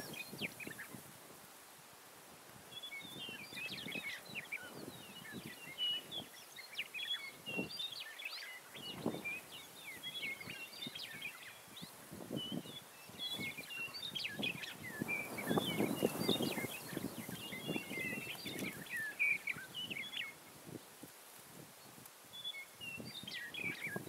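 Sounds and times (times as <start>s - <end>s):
birds chirping and twittering: 0.0s - 1.0s, 2.7s - 20.8s, 21.8s - 24.0s.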